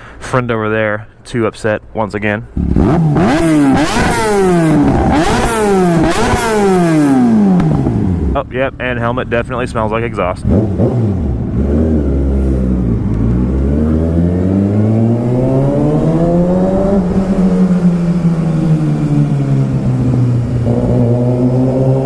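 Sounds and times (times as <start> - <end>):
motorcycle engine revving: 2.6 - 22.0.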